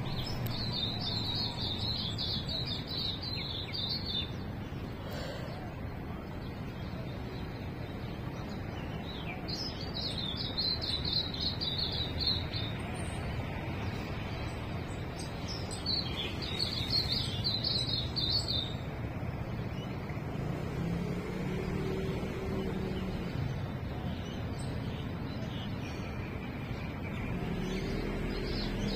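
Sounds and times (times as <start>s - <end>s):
songbird chirping: 0.0s - 28.9s.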